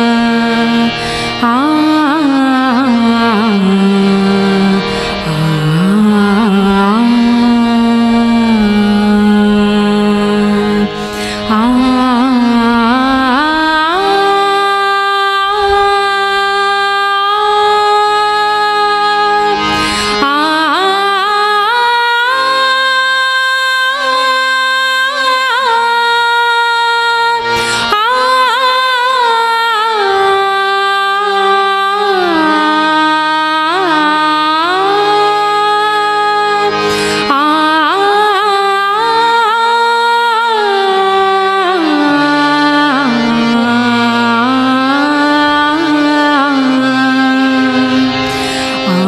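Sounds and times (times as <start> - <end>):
woman singing wordless notes: 0.0 - 49.0.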